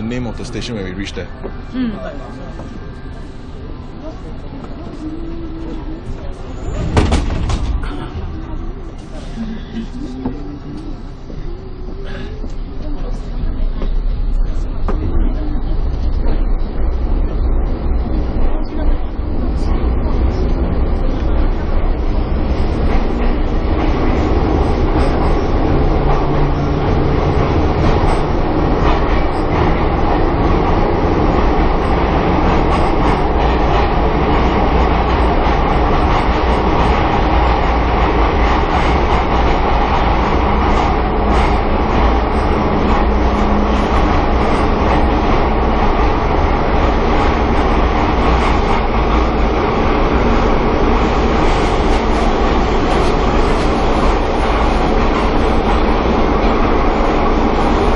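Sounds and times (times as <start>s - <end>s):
subway train rumble: 0.0s - 57.9s.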